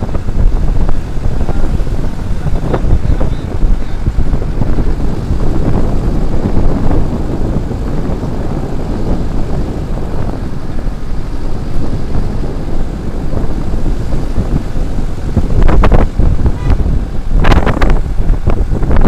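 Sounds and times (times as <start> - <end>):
vehicle engine and tyre noise: 0.0 - 19.0
wind buffeting microphone: 0.0 - 19.0.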